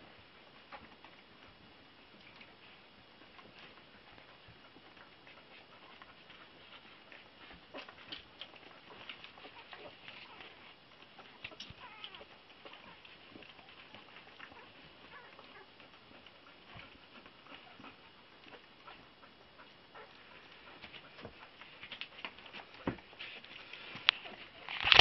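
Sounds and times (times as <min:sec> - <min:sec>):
puppies rustling on bedding: 0:00.0 - 0:25.0.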